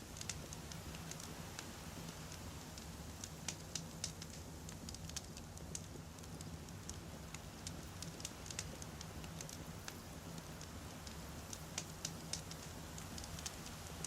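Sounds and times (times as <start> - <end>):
firewood crackling and popping: 0.0 - 14.0
low rumble of flame: 0.0 - 14.0.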